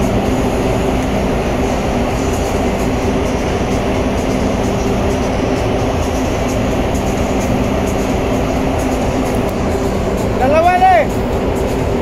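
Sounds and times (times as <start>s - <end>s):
constant rushing noise: 0.0s - 12.0s
ship engine droning: 0.0s - 12.0s.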